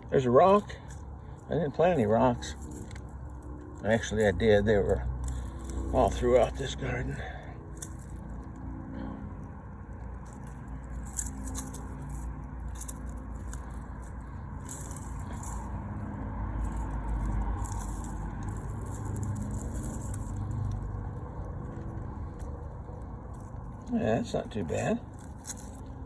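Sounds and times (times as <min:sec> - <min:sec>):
soil scraping and rustling: 0:00.0 - 0:09.2, 0:09.8 - 0:26.0
low rumble: 0:00.7 - 0:26.0.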